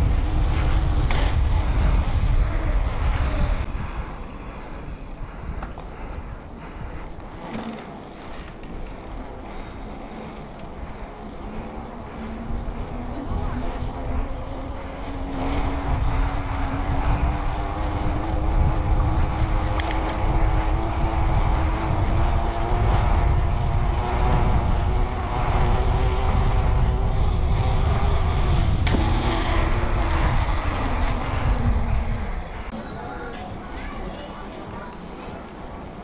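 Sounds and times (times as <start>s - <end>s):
bike tyres humming on concrete: 0.0s - 36.0s
wind rumble: 0.0s - 36.0s.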